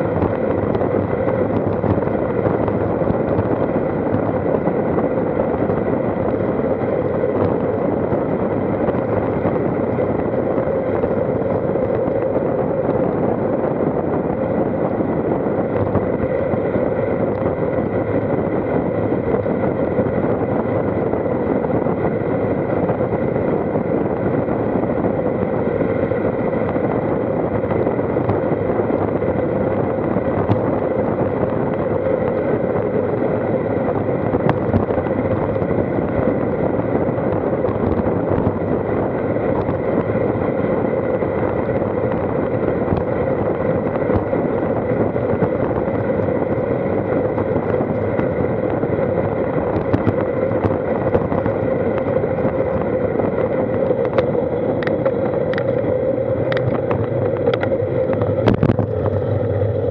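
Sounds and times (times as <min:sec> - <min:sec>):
tyres on asphalt: 0:00.0 - 0:59.9
wind rushing: 0:00.0 - 0:59.9.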